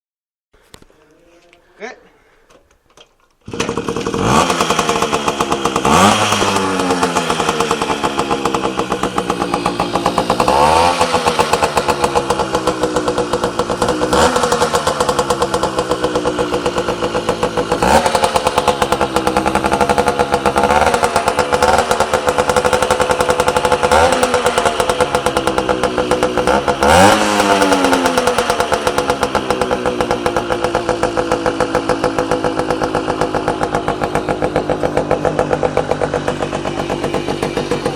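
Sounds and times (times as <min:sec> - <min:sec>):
moped engine revving: 0:03.4 - 0:37.9.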